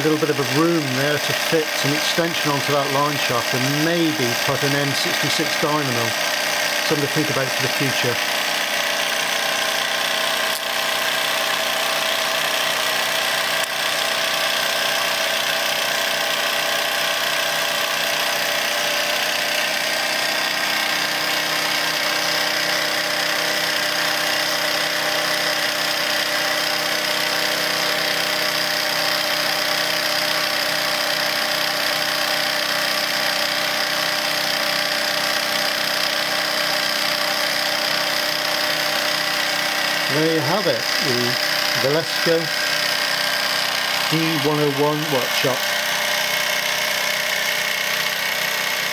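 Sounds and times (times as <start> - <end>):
toy steam engine whirring: 0.0 - 48.9.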